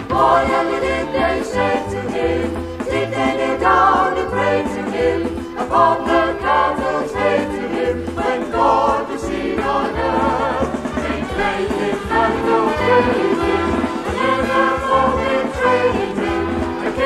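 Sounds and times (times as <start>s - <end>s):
group singing in harmony: 0.0s - 17.0s
instrumental accompaniment: 0.0s - 17.0s.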